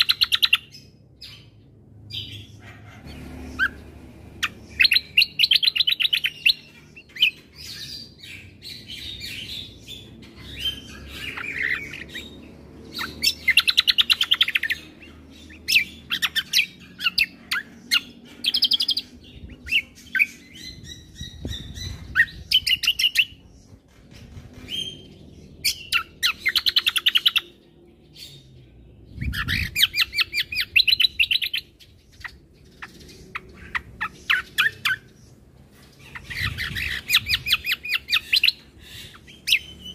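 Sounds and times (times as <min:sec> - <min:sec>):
songbird singing rattling trills: 0:00.0 - 0:39.9.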